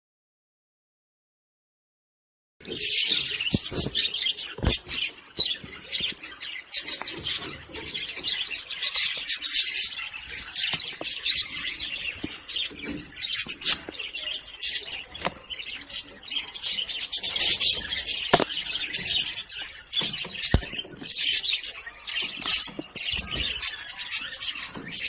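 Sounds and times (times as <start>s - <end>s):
parrots chirping and squeaking: 2.6s - 25.0s.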